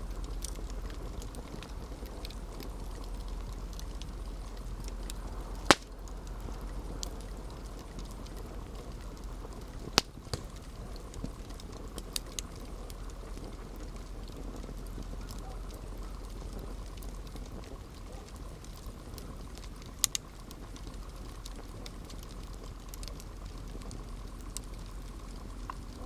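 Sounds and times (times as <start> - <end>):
burning wood popping: 0.0 - 26.0
campfire hissing and crackling: 0.0 - 26.0.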